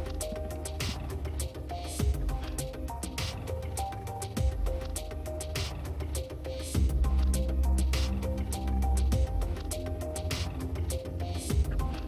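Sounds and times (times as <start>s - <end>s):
background music with heavy bass: 0.0s - 12.0s.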